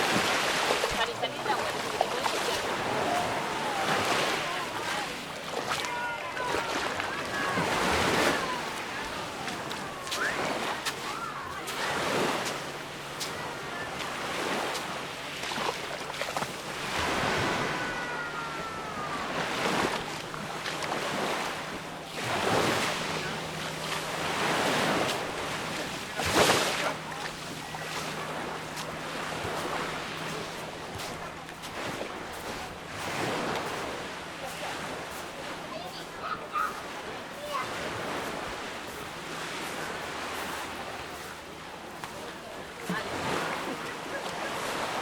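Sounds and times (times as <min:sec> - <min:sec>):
small waves breaking on beach: 0:00.0 - 0:45.0.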